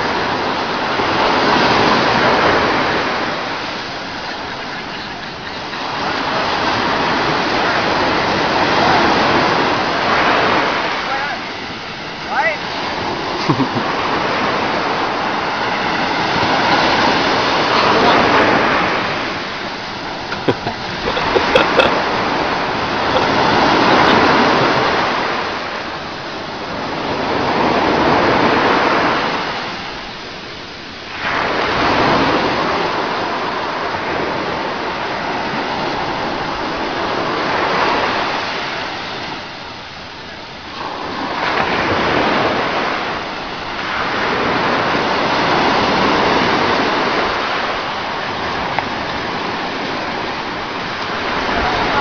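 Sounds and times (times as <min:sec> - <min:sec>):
sea waves breaking on shore: 0:00.0 - 0:52.0.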